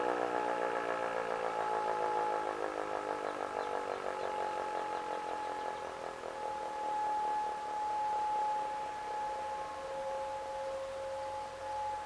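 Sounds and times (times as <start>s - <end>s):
distant sirens: 0.0s - 12.0s
warning siren winding down: 0.0s - 12.0s.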